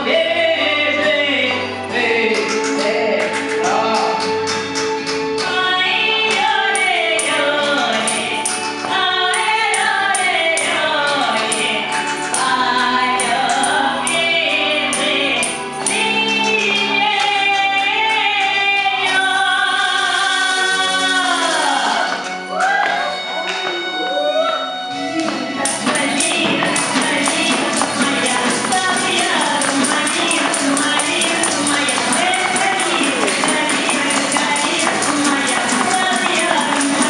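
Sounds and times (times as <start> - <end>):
woman singing into a microphone: 0.0 - 4.2, 5.4 - 22.2, 25.3 - 37.0
music with a steady beat: 0.0 - 37.0.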